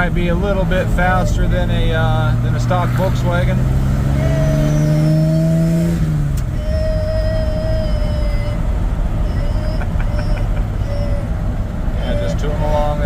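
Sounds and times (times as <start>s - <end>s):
low driving rumble with whine: 0.0s - 13.0s
truck engine accelerating: 0.0s - 13.0s.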